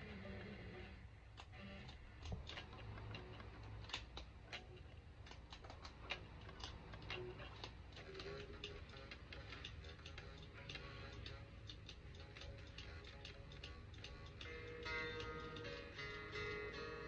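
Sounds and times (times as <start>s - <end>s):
guitar pick clicking on strings: 1.4s - 17.0s.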